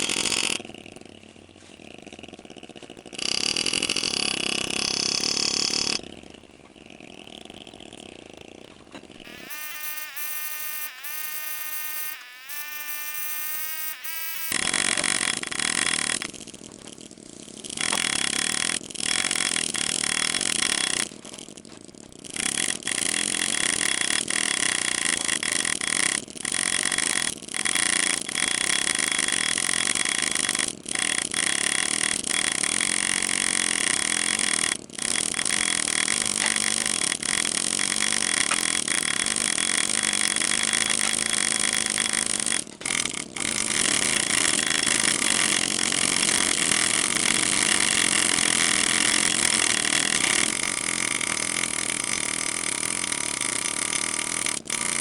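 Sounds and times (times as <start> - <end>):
power engraving tool on steel: 3.2 - 6.0, 9.2 - 16.9, 17.6 - 21.4, 22.3 - 55.0.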